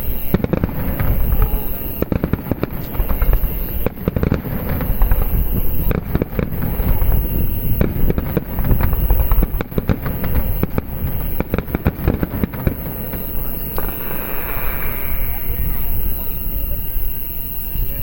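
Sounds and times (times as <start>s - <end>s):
deep fireworks booms: 0.0s - 17.0s
fireworks bangs and crackles: 0.0s - 18.0s.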